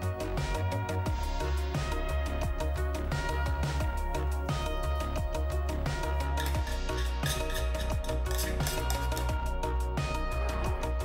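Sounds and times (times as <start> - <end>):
electronic music with bass: 0.0 - 11.0.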